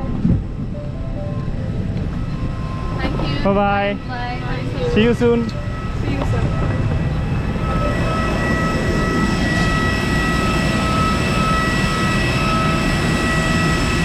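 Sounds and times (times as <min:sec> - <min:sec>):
jet airliner whine: 0:00.0 - 0:14.0.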